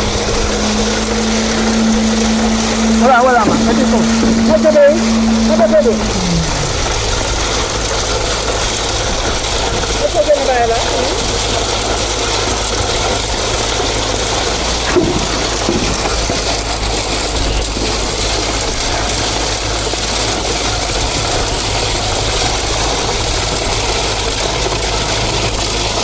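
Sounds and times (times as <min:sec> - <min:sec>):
machine engine running: 0:00.0 - 0:26.0.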